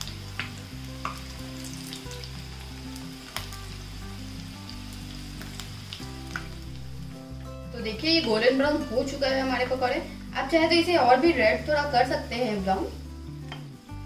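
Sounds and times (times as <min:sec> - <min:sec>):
fritters sizzling in hot oil: 0:00.0 - 0:14.0.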